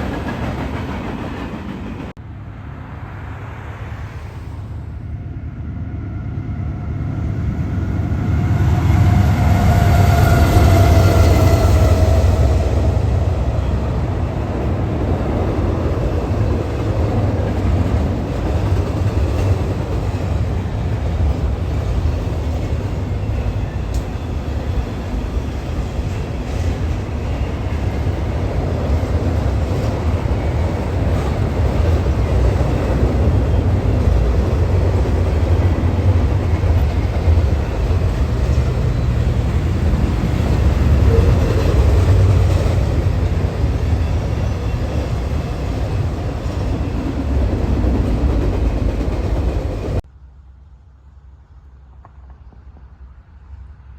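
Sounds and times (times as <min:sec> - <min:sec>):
train rumbling past: 0:00.0 - 0:53.9.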